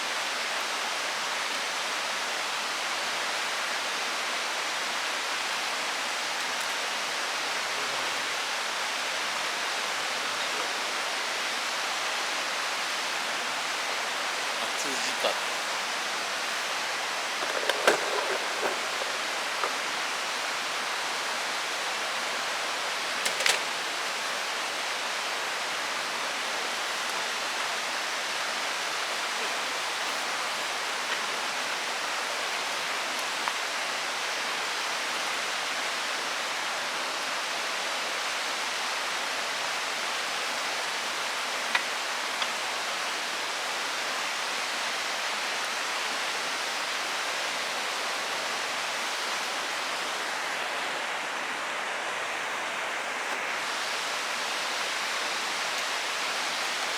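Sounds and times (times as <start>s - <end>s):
mountain stream rushing: 0.0s - 56.9s.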